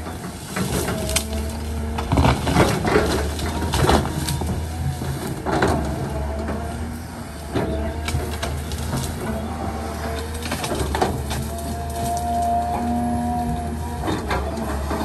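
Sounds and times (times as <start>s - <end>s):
vegetation cracking: 0.0s - 6.9s, 7.5s - 15.0s
excavator diesel engine: 0.0s - 15.0s
hydraulic whine: 0.0s - 15.0s.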